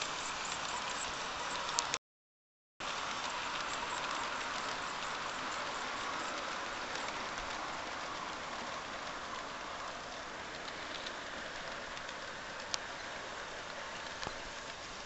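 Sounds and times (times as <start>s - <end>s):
light clicks of train wheels: 0.0s - 2.0s, 2.8s - 15.0s
model train wheels rolling on rails: 0.0s - 2.0s, 2.8s - 15.0s.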